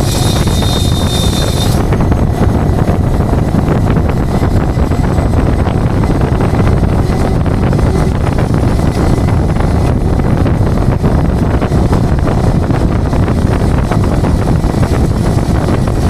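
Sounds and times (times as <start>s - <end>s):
truck engine and road rumble: 0.0s - 16.0s
wind noise on microphone: 0.0s - 16.0s.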